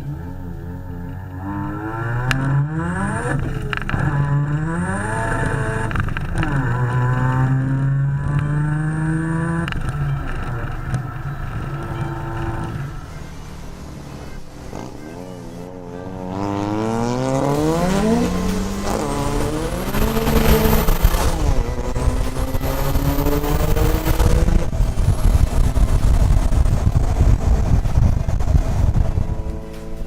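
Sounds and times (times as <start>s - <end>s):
rotary engine accelerating hard: 0.0s - 30.0s.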